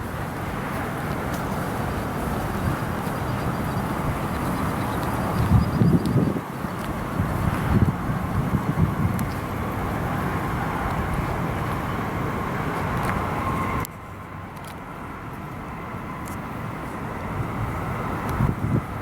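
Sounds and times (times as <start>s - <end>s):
electric train running past: 0.0s - 19.0s.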